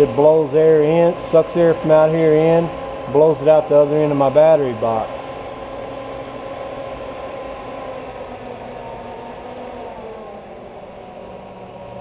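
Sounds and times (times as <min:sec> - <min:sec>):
small fan whirring: 0:00.0 - 0:12.0.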